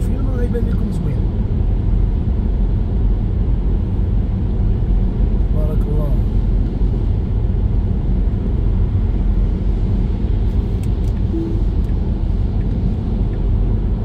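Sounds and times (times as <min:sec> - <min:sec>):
car engine rumble: 0:00.0 - 0:14.0.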